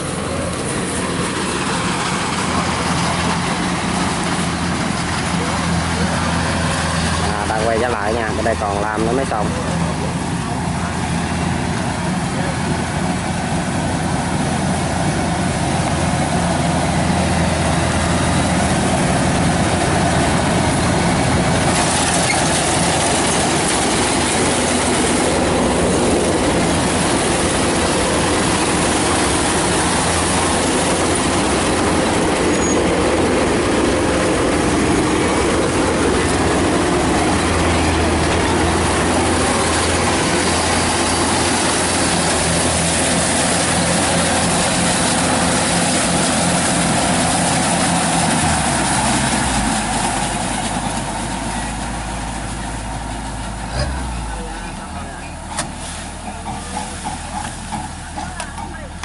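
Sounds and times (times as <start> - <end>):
combine harvester engine droning: 0.0 - 59.0.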